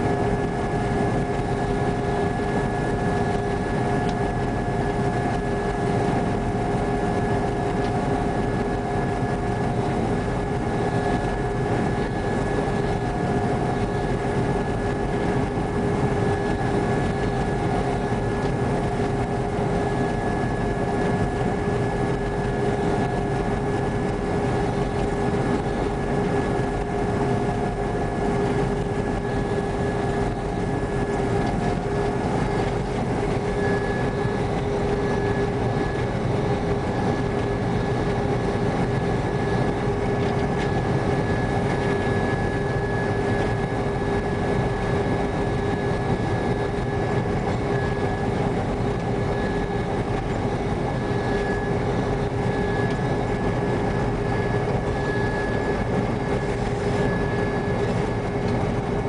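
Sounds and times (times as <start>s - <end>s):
combine harvester running: 0.0s - 59.0s
whining machinery tones: 0.0s - 59.0s.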